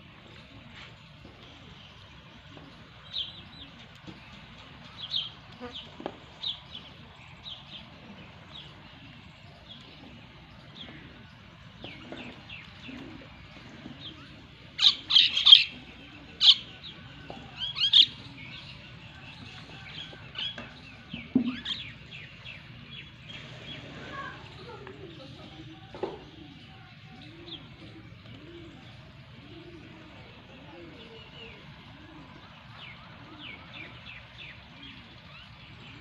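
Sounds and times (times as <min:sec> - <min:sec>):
small birds chirping: 0:00.1 - 0:36.0.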